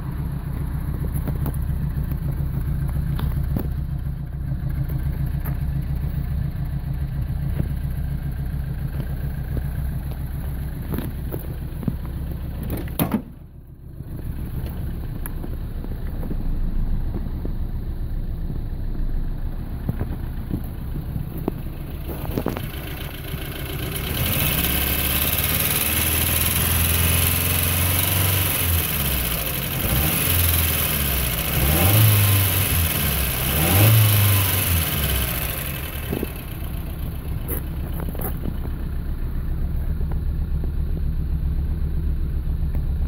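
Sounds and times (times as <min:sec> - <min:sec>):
car engine misfiring: 0:00.0 - 0:43.0.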